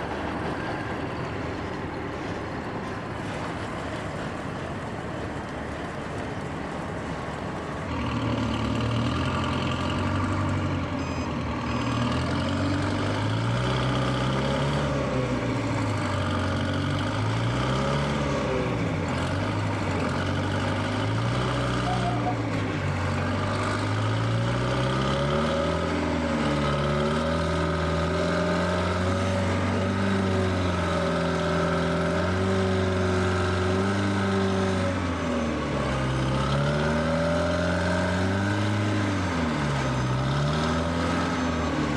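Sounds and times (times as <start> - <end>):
heavy engine revving: 7.7 - 41.9.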